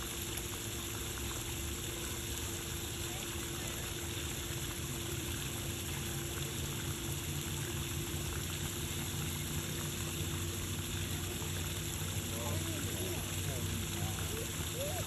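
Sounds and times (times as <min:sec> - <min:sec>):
faint steady hum: 0:00.0 - 0:15.0
running water rushing: 0:00.0 - 0:15.0.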